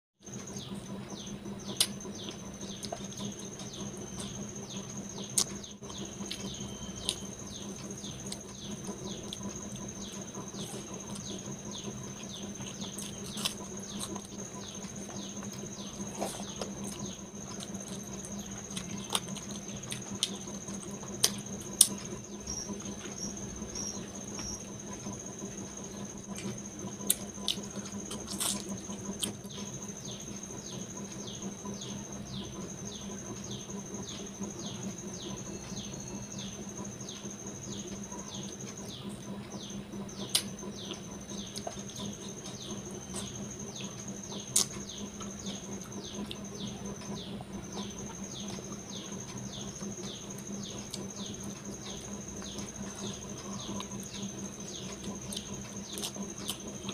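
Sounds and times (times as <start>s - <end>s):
faint low hum: 0.2s - 56.9s.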